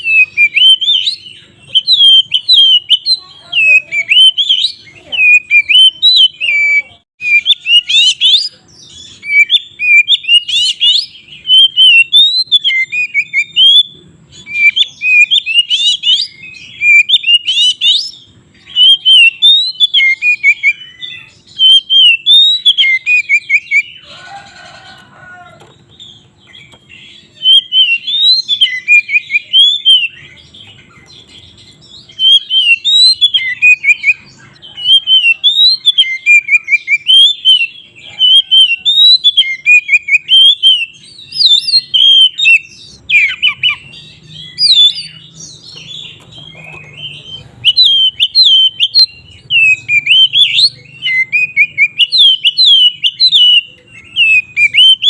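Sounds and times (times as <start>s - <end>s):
bird singing whistled notes: 0.0s - 24.0s, 26.0s - 55.0s.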